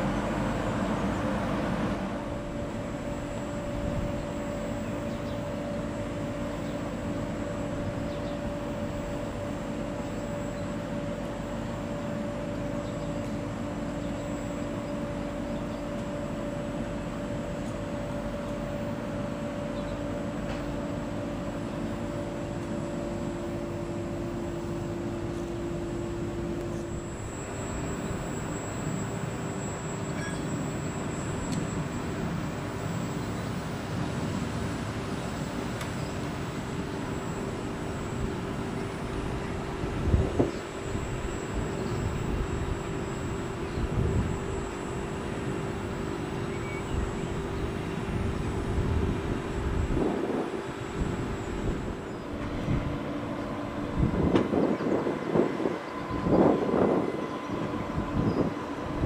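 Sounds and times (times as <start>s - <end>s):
droning whine: 0.0s - 59.0s.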